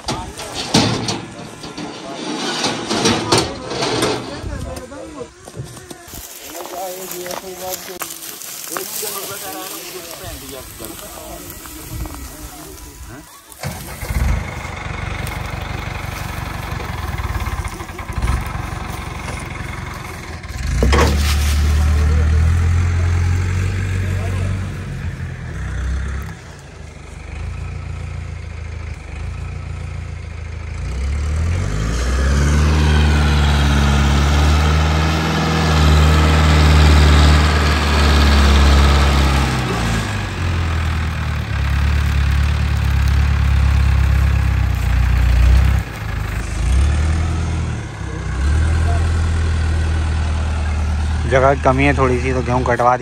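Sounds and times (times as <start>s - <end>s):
diesel engine idling and revving: 0.0s - 53.0s.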